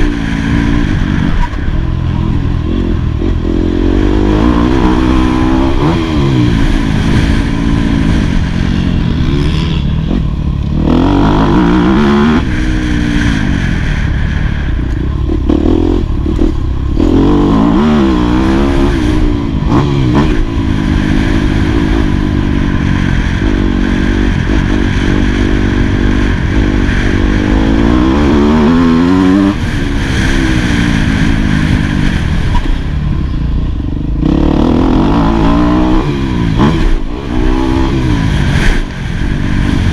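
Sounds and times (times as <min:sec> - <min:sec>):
motocross engine revving: 0:00.0 - 0:14.1, 0:15.2 - 0:32.6, 0:34.2 - 0:39.9.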